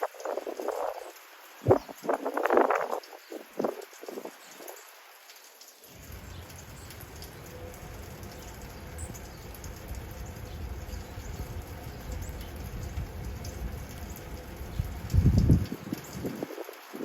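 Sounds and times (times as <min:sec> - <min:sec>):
wind rumbling on microphone: 0:00.0 - 0:04.8, 0:06.0 - 0:17.0
wet snow crackling and pattering: 0:00.0 - 0:17.0.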